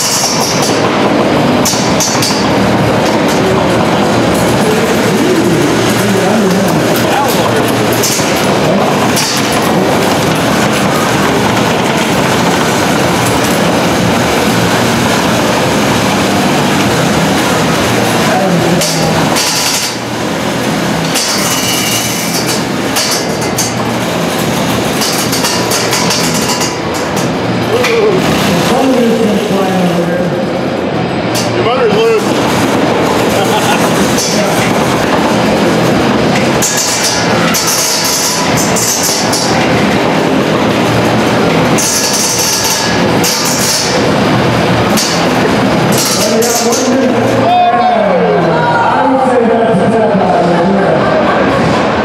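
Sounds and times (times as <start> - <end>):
harsh metal scraping: 0.0 - 47.7
steady low hum: 0.0 - 52.0.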